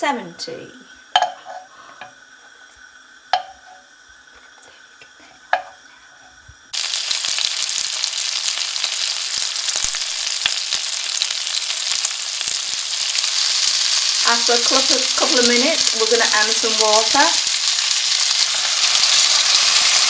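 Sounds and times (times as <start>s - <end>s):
dumplings sizzling in oil: 0.5s - 20.0s.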